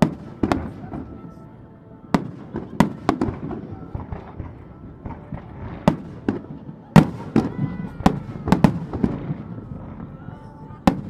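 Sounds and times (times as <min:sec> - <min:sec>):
firework crackle: 0:02.1 - 0:11.0.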